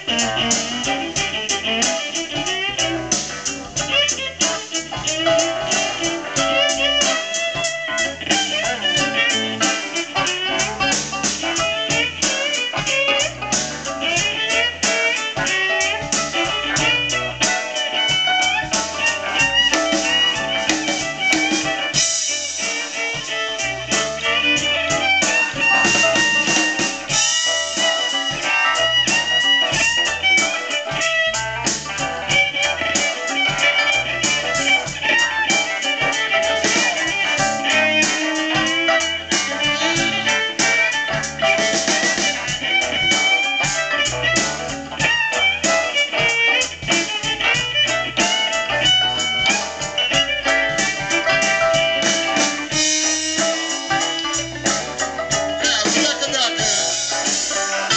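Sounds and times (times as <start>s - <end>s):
blues band playing: 0.0s - 57.9s
electric guitar bending notes: 0.0s - 57.9s.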